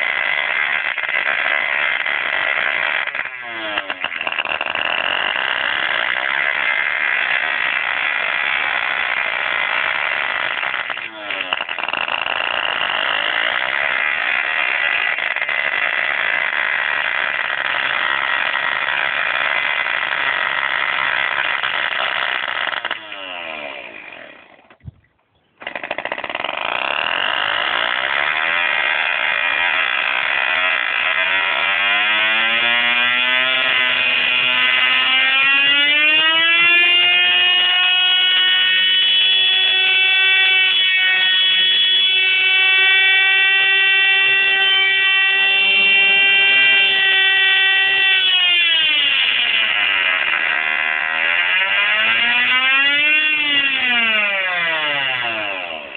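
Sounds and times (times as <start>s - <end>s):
small model engine revving: 0.0s - 24.8s, 25.6s - 55.9s.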